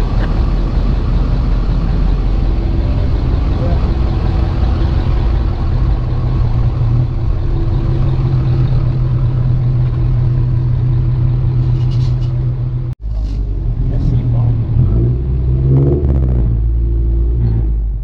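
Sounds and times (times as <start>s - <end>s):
vehicle engine idling: 0.0s - 15.6s.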